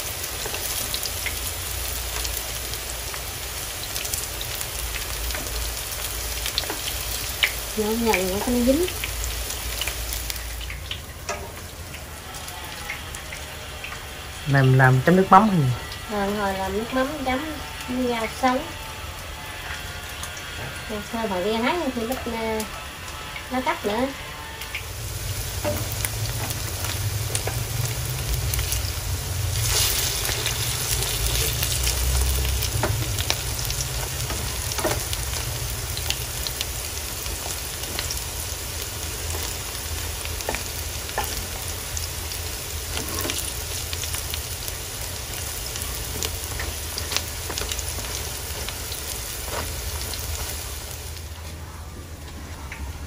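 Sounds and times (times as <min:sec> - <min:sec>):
oil sizzling and crackling: 0:00.0 - 0:53.0.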